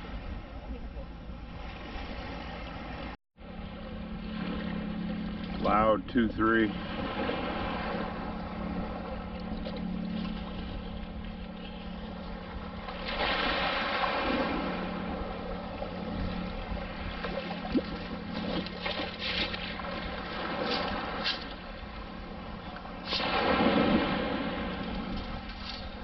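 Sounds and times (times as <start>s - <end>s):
surf sloshing around legs: 4.2s - 26.0s.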